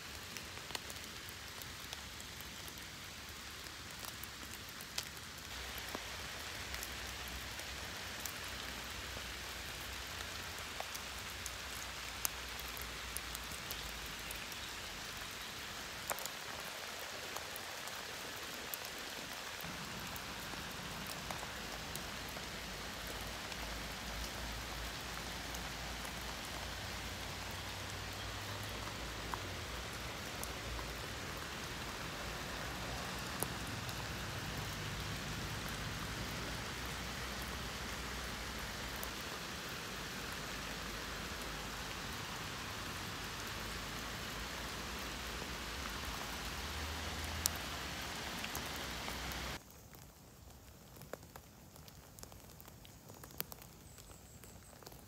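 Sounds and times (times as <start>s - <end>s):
raindrops tapping close by: 0.0s - 55.0s
steady rain: 0.0s - 55.0s.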